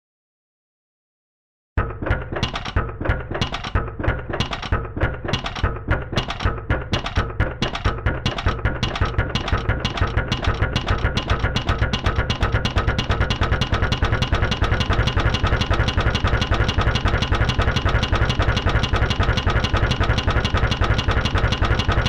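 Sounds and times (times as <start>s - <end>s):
music with fast percussive beat: 1.8s - 22.0s.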